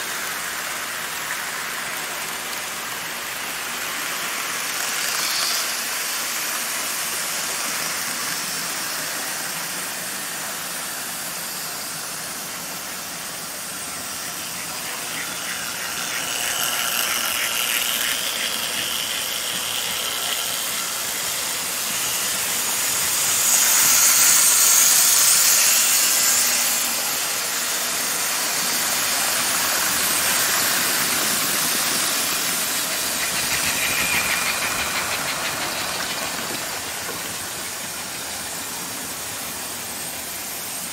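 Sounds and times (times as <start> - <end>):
small electric motors whirring: 0.0 - 40.9
wheels rolling on track: 0.0 - 40.9.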